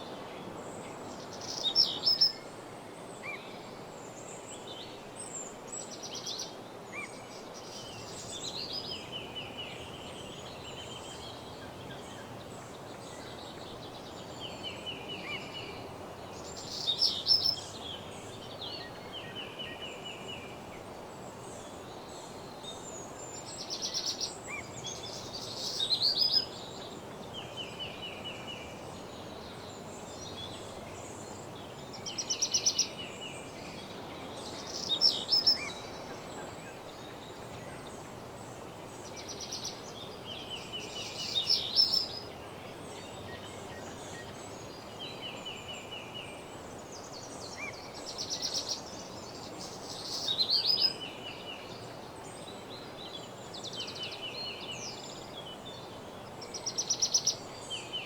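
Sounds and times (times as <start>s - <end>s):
songbirds singing: 0.0s - 58.0s
steady background hiss: 0.0s - 58.0s.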